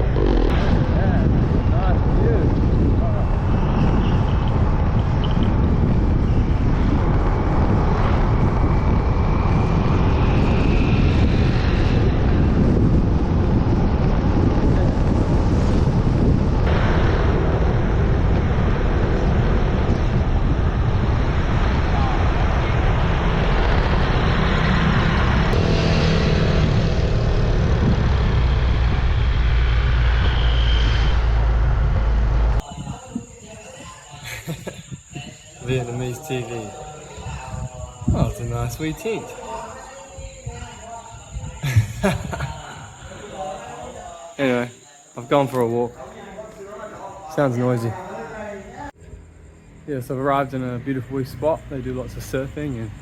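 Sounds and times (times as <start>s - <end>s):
road noise: 0.0s - 41.5s, 45.2s - 53.0s
wind on microphone: 0.0s - 44.1s.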